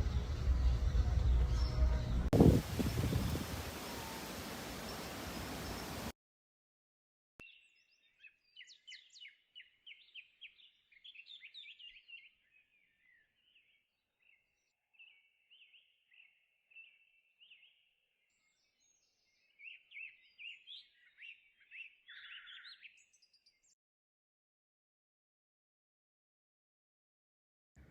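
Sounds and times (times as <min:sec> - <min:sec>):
faint songbirds chirping: 0:00.0 - 0:06.1, 0:07.4 - 0:23.8.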